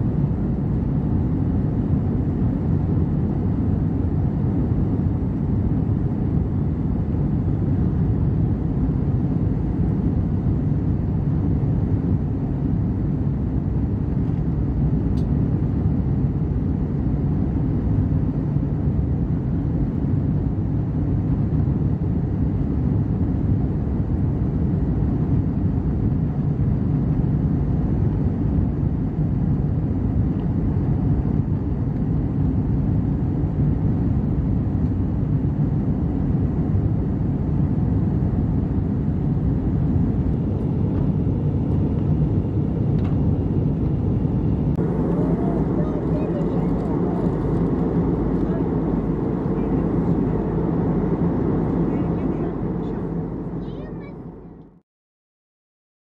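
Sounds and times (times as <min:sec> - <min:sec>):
jet engine drone in cabin: 0:00.0 - 0:54.8.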